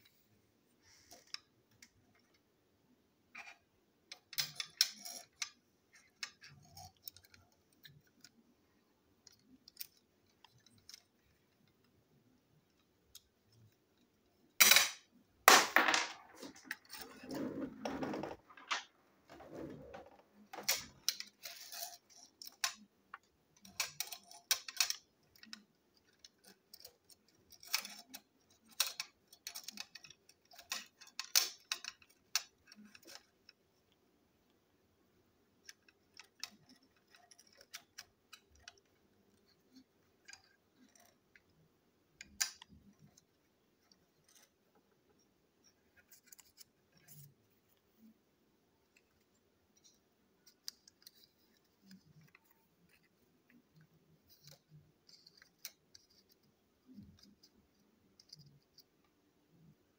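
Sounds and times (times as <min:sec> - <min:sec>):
plastic parts clicking and clattering: 0:00.8 - 0:02.4, 0:03.4 - 0:08.5, 0:09.2 - 0:34.0, 0:35.6 - 0:48.1, 0:48.8 - 0:59.0.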